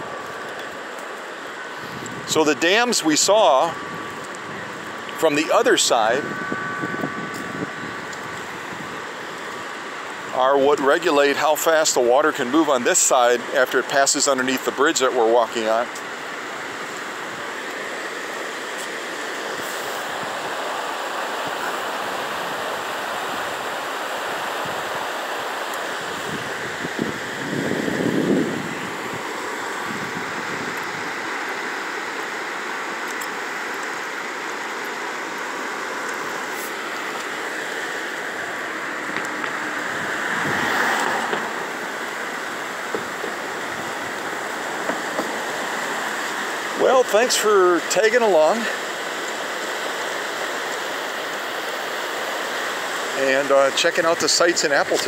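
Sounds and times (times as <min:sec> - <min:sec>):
fast-flowing river water: 0:00.0 - 0:55.0.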